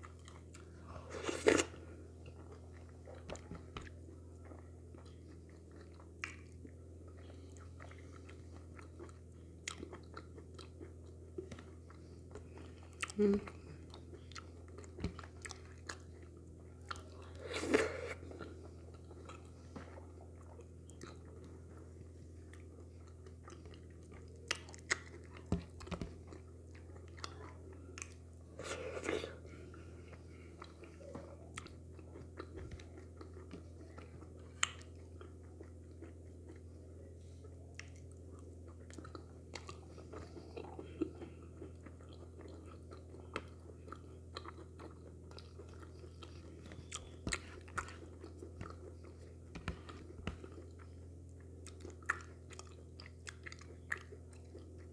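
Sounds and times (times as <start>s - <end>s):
chewing and lip smacks: 0.0s - 17.4s, 18.1s - 54.9s.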